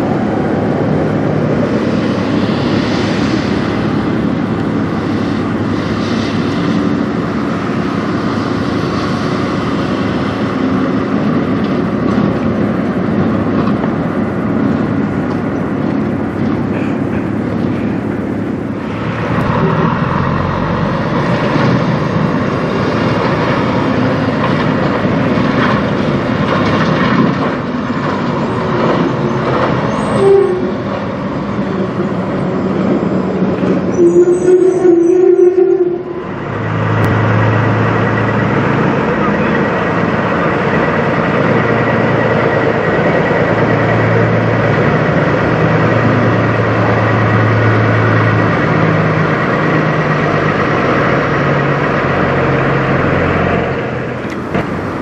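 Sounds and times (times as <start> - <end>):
trucks driving past on highway: 0.0 - 55.0.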